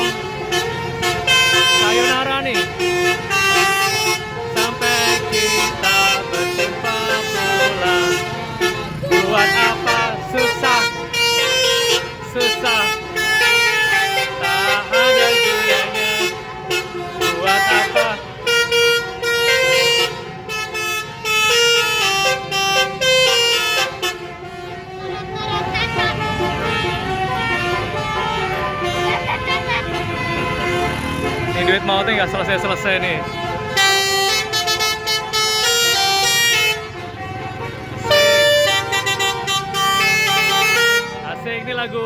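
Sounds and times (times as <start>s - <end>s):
bus horn playing a melody: 0.0s - 41.4s.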